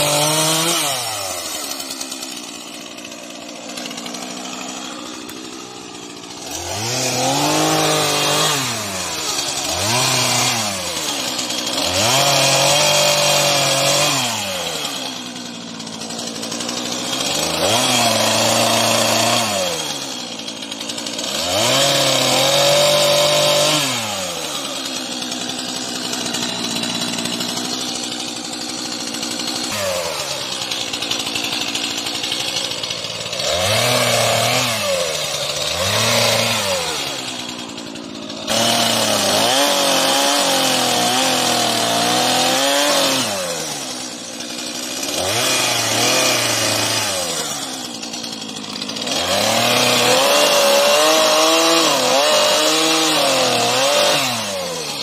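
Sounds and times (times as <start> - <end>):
chainsaw revving and idling: 0.0 - 55.0.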